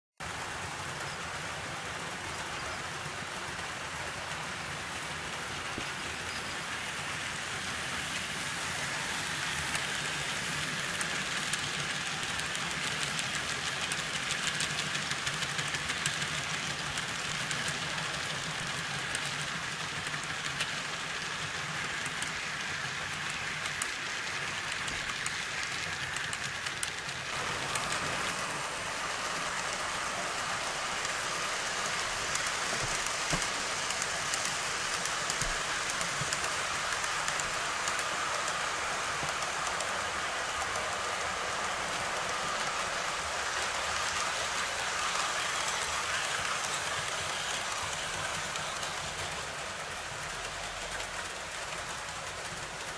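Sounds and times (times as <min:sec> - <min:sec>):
model train wheels and motor: 0:00.2 - 0:52.9
second model locomotive: 0:00.2 - 0:52.9.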